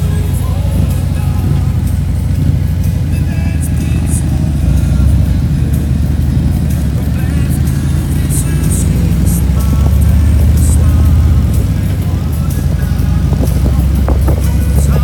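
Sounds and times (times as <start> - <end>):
motorcycle engine rumbling: 0.0 - 15.0
music playing: 0.0 - 15.0.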